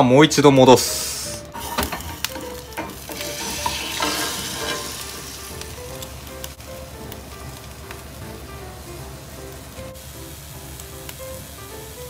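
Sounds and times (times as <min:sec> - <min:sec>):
omelette sizzling in a skillet: 0:00.9 - 0:12.0.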